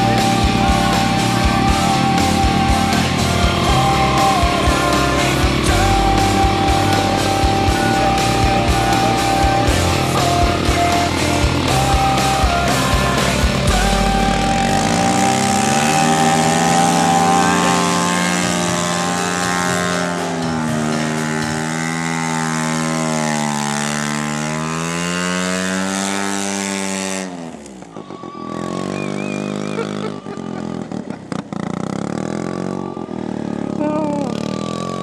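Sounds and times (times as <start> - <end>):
rotary engine revving: 0.0 - 35.0.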